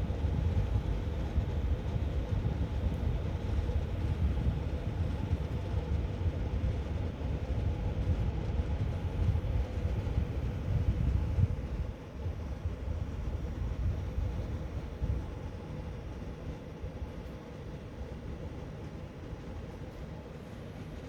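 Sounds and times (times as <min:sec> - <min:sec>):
fan whirring: 0:00.0 - 0:21.0.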